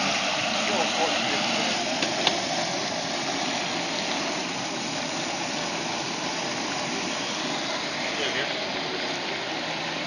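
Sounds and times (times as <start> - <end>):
burner hissing: 0.0 - 10.0
oil bubbling in a pot: 0.0 - 10.0.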